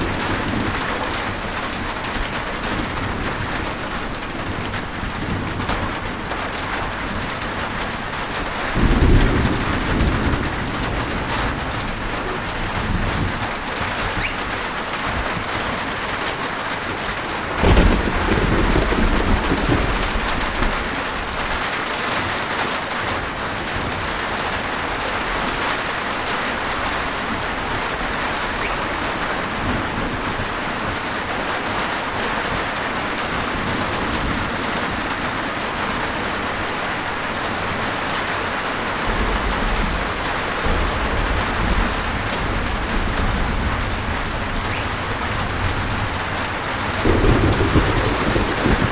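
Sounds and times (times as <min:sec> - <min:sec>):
thunder rumbling: 0:00.0 - 0:37.9, 0:38.7 - 0:48.9
steady rain falling: 0:00.0 - 0:48.9.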